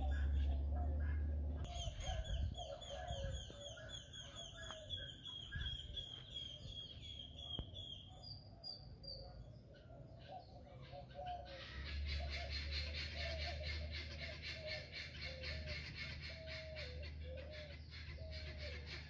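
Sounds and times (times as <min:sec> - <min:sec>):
birds chirping: 0:00.0 - 0:19.0
birds warbling: 0:00.0 - 0:19.0.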